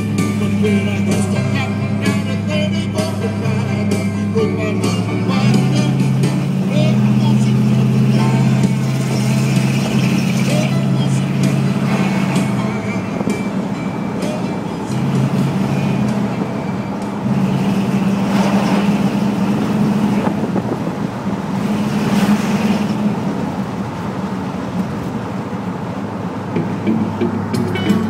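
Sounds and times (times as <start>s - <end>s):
car engine running: 0.0s - 28.0s
lorry passing: 0.0s - 28.0s
road and wind noise: 0.0s - 28.0s.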